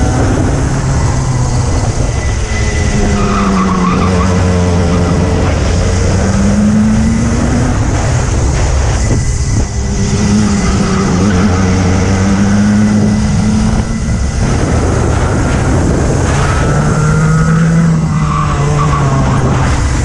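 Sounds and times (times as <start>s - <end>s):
racing kart engine: 0.0s - 20.0s
wind and road noise: 0.0s - 20.0s.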